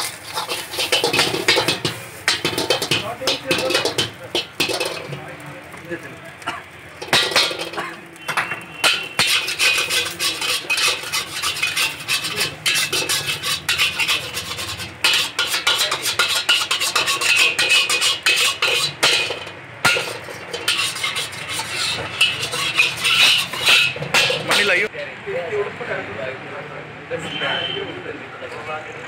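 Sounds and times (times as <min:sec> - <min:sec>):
metal utensils clattering on cookware: 0:00.0 - 0:24.9.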